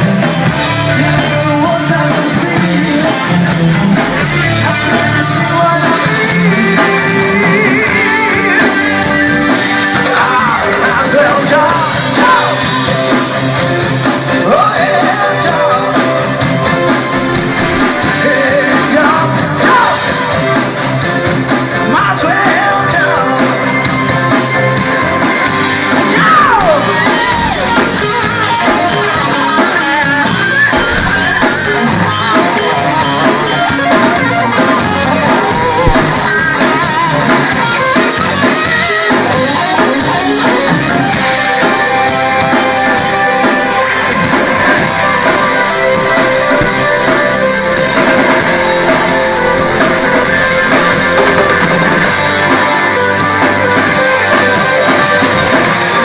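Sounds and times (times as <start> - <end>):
person singing: 0.0 - 13.4, 14.0 - 24.2, 25.8 - 56.0
drum kit: 0.0 - 56.0
electric guitar: 0.0 - 56.0.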